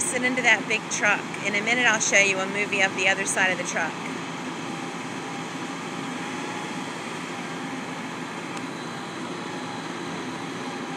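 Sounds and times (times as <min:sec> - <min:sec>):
faint steady whine: 0:00.0 - 0:10.9
truck engine humming: 0:00.0 - 0:10.9.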